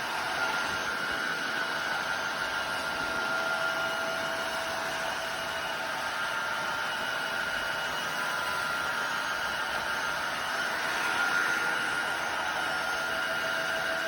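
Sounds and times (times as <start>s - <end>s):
floor cleaner hissing and whining: 0.0s - 14.0s.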